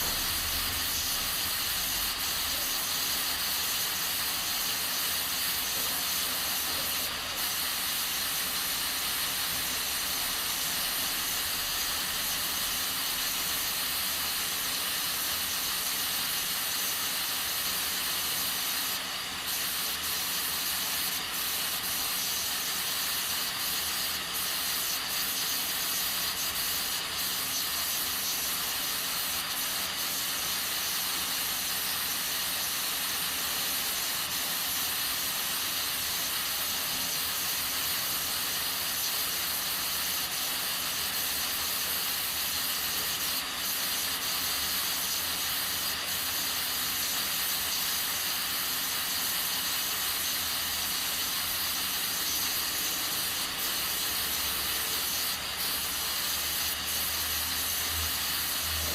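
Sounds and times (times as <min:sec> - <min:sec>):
pressure cooker hissing steam: 0:00.0 - 0:58.9.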